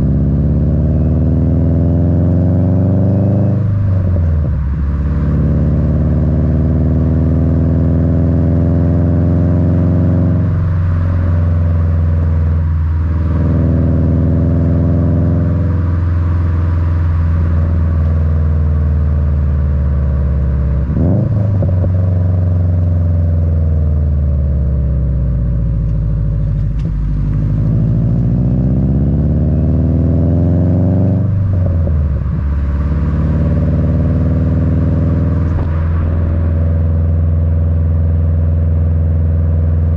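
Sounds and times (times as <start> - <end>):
car exhaust rumble: 0.0 - 39.9.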